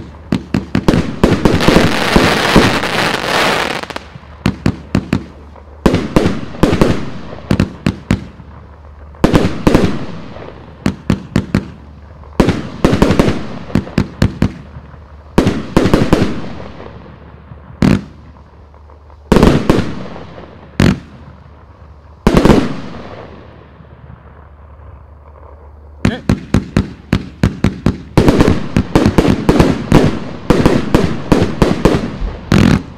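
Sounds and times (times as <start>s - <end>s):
aerial firework bursts: 0.0s - 32.9s
firework hiss: 0.0s - 32.9s.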